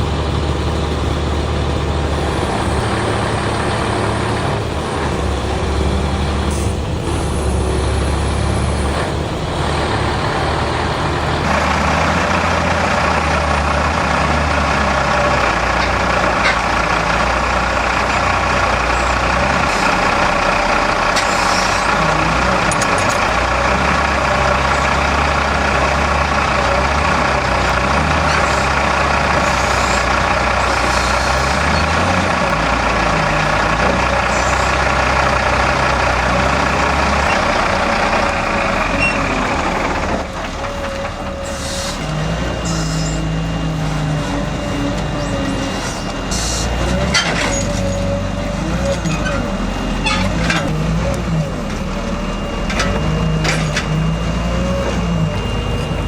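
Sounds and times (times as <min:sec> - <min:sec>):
heavy diesel engine working hard: 0:00.0 - 0:56.0.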